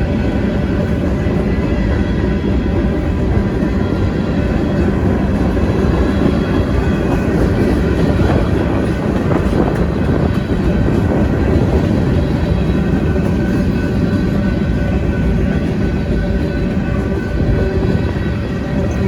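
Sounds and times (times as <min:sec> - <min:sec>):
train wheels on rail: 0:00.0 - 0:19.0.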